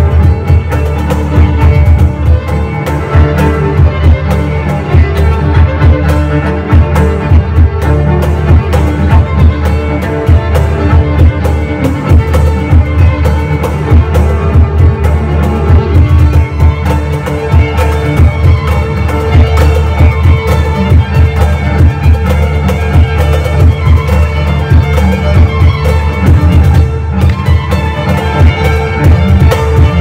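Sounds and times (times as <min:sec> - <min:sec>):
cello bowed bass line: 0:00.0 - 0:30.0
violin melody: 0:00.0 - 0:30.0.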